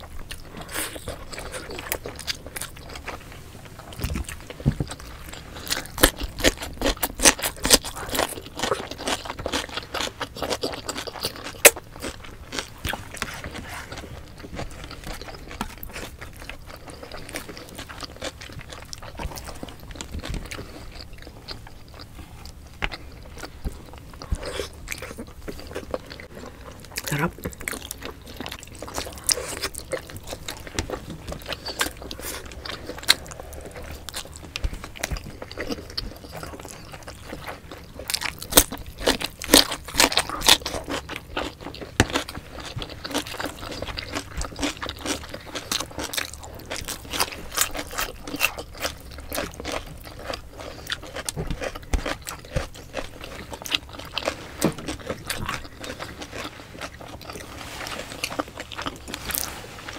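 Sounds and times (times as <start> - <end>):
wet chewing and lip smacks: 0.0 - 59.5.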